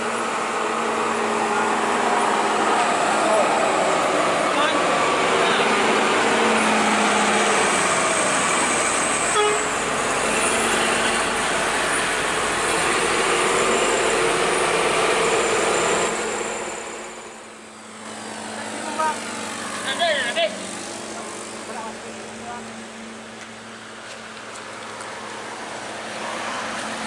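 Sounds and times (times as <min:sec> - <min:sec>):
bus diesel engine running hard: 0:00.0 - 0:27.0.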